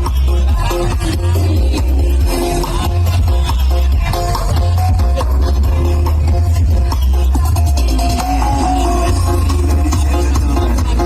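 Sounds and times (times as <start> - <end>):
electronic dance music heavy bass: 0.0 - 11.0.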